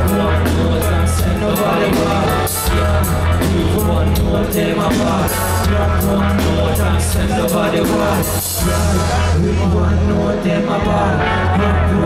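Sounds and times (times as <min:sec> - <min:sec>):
live reggae band playing: 0:00.0 - 0:12.0.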